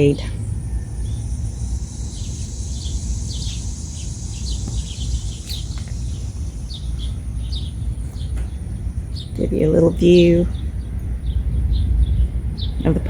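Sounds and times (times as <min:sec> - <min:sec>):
low rumble: 0:00.0 - 0:13.0
small birds chirping: 0:00.0 - 0:13.0
steady high hiss: 0:00.0 - 0:13.0.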